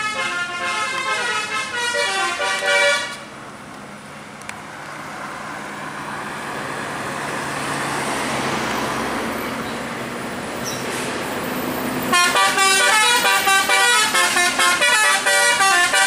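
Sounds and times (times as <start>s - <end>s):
vehicle passing: 1.1s - 16.0s.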